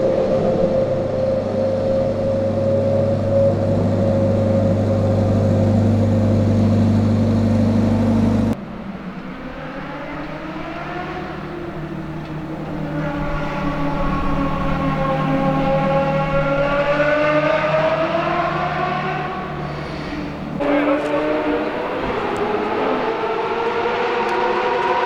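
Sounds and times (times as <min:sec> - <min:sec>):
engine running: 0:00.0 - 0:25.0
engine revving: 0:01.2 - 0:25.0.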